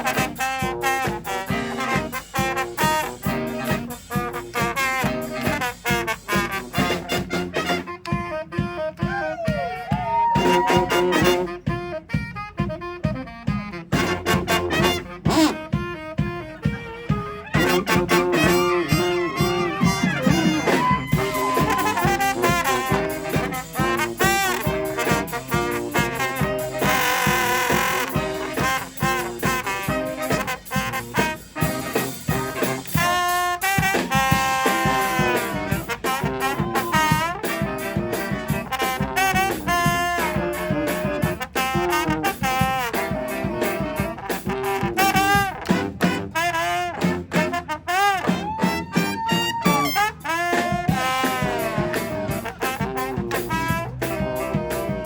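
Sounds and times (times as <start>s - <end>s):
brass band playing upbeat tune: 0.0s - 55.0s.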